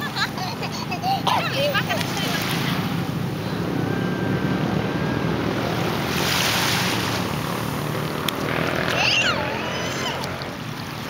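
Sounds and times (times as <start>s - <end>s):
small waves lapping: 0.0s - 11.0s
wash of water: 1.0s - 11.0s.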